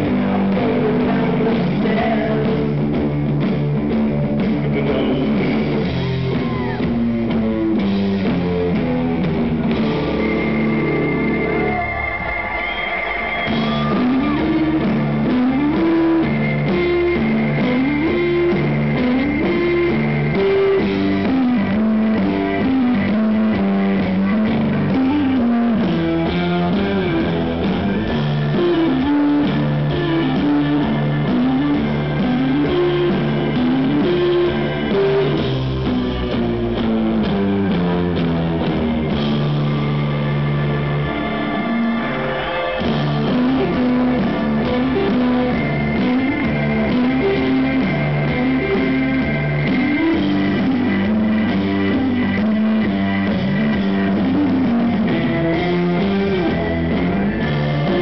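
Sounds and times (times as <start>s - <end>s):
electric guitar riff: 0.0s - 58.0s
live rock band playing: 0.0s - 58.0s.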